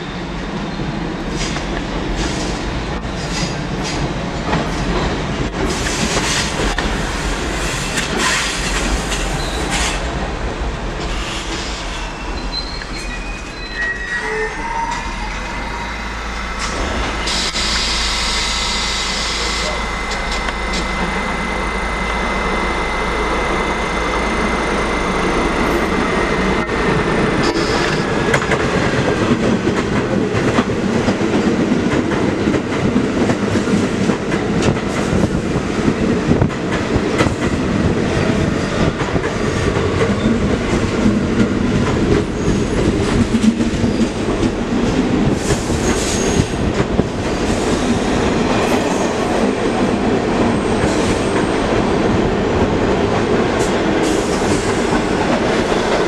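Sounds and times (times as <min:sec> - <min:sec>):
train rumbling on track: 0:00.0 - 0:56.0.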